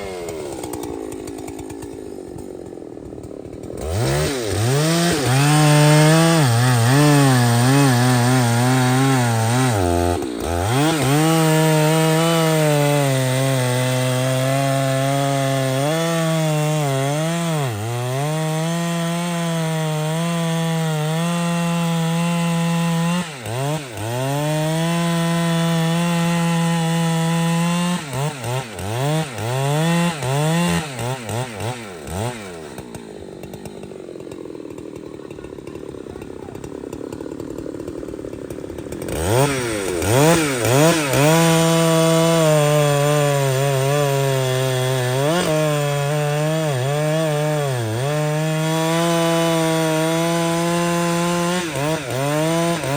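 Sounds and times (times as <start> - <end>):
chainsaw cutting wood: 0.0 - 52.9
chainsaw throttle blipping: 0.0 - 52.9.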